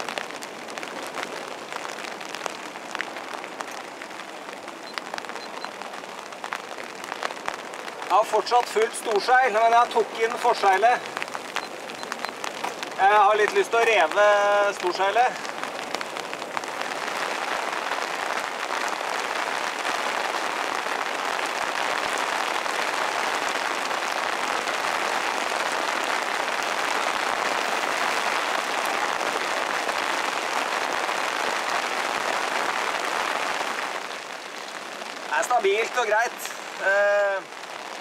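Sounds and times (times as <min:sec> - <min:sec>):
rain and wind on canvas: 0:00.0 - 0:38.0.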